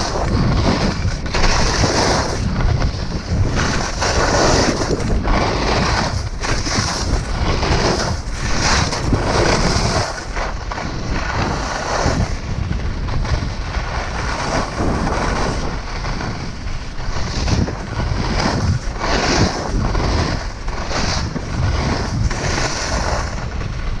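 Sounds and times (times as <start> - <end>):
skis scraping on snow: 0.0 - 24.0
wind on microphone: 0.0 - 24.0.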